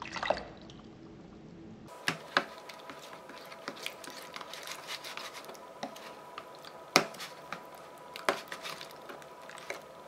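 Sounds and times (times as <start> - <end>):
wet squishing slime: 1.9 - 10.0.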